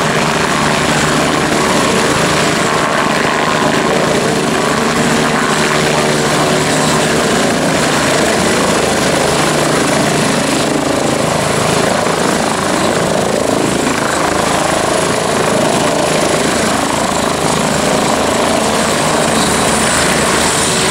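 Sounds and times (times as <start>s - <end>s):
helicopter rotor and turbine: 0.0s - 20.9s.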